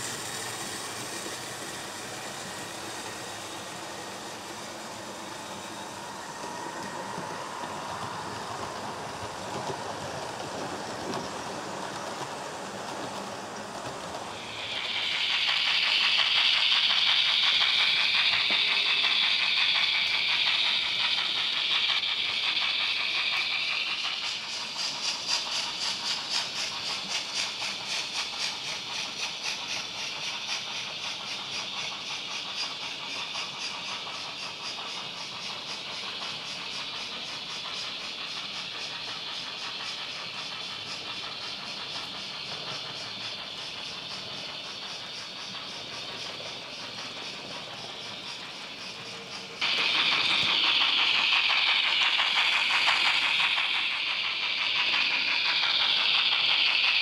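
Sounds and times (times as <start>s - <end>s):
model locomotive hiss: 0.0s - 57.0s
rhythmic locomotive chuffing beat: 0.0s - 57.0s.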